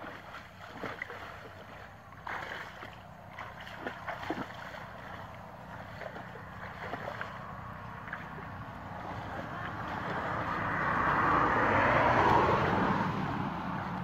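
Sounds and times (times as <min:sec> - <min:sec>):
muddy water splashing and sloshing: 0:00.0 - 0:14.0.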